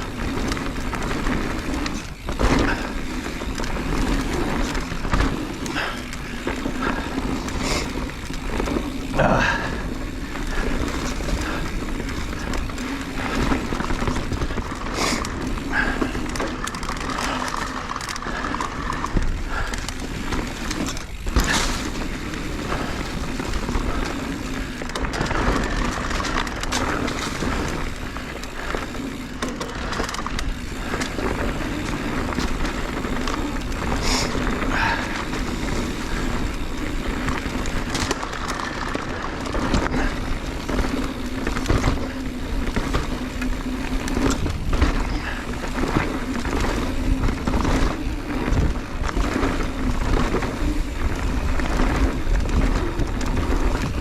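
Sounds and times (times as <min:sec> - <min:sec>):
bike rattling and knocking: 0:00.0 - 0:54.0
tyres rolling over rocky dirt: 0:00.0 - 0:54.0.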